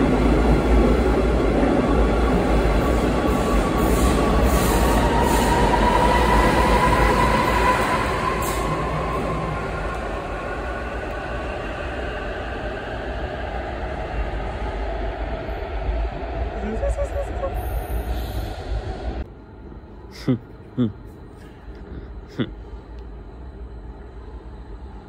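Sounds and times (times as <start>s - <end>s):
train rumbling with rising whine: 0.0s - 25.0s.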